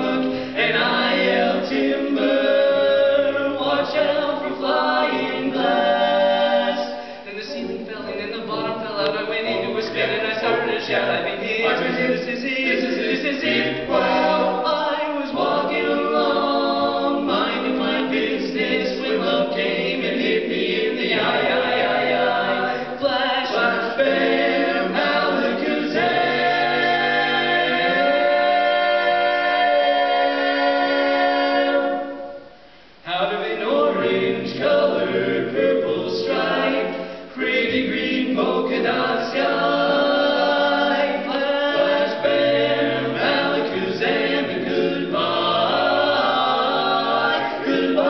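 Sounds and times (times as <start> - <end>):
men singing a cappella harmony: 0.0 - 32.3, 33.1 - 48.0.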